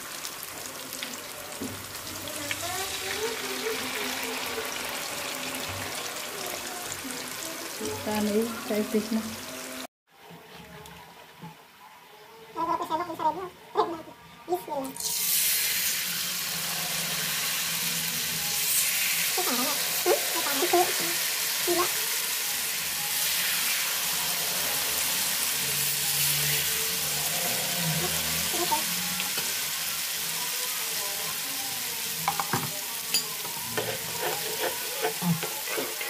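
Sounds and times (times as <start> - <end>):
batter deep-frying in oil: 0.0 - 9.8, 14.9 - 36.0.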